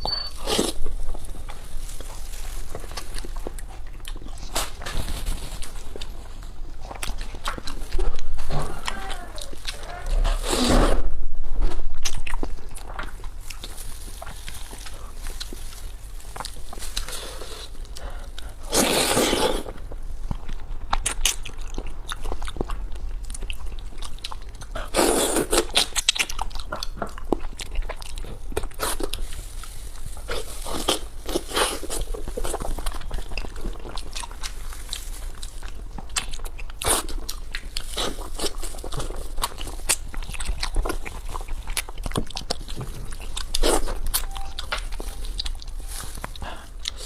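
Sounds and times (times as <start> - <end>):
person chewing and biting food: 0.2 - 4.9, 5.5 - 11.0, 12.0 - 47.0.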